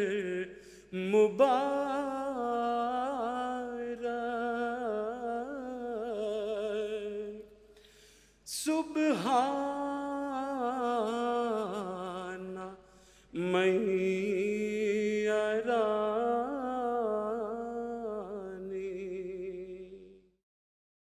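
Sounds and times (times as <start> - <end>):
man chanting: 0.0 - 7.5, 8.5 - 20.2.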